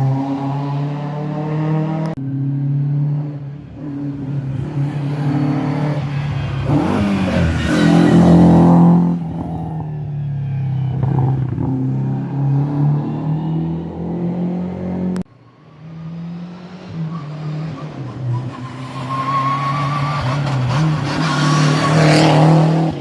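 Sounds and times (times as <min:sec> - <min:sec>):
rally car engine at high revs: 0:00.0 - 0:09.8, 0:11.0 - 0:15.2, 0:15.8 - 0:23.0.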